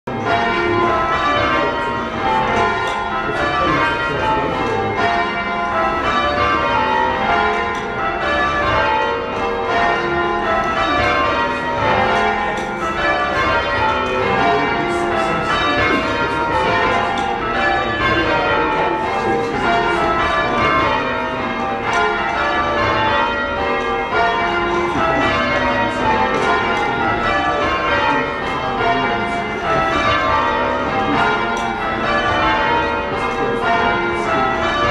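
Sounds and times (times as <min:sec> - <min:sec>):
church bells change-ringing: 0:00.1 - 0:34.9.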